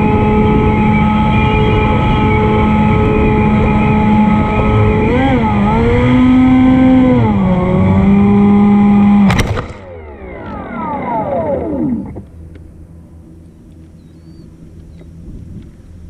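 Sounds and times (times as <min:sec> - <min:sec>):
propeller motor whining: 0:00.0 - 0:16.0
wind rumbling on microphone: 0:00.0 - 0:16.0.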